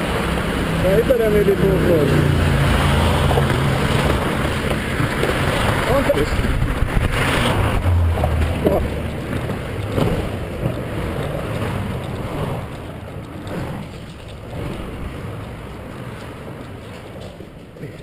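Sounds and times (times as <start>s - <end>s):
road traffic rushing: 0.0s - 18.0s
wind on microphone: 2.3s - 18.0s.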